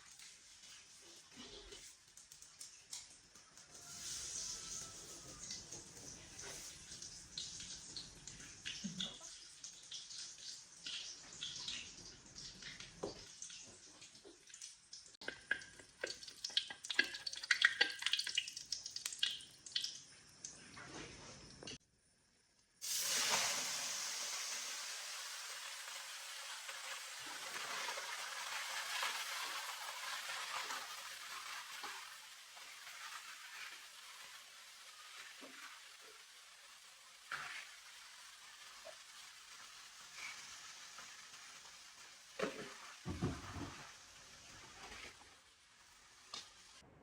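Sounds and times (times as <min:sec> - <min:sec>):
food sizzling in hot oil: 0:00.0 - 0:20.6, 0:22.8 - 0:46.8.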